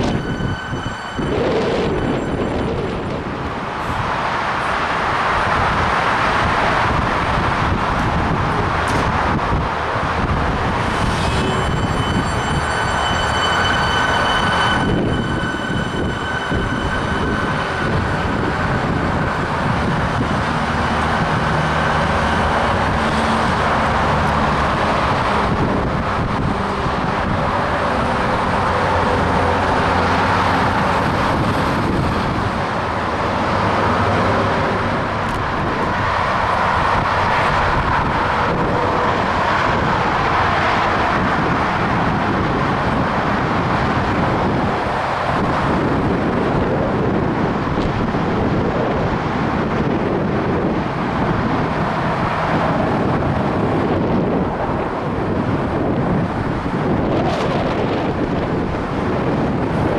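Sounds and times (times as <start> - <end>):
electric train whine and rumble: 0.0 - 59.9.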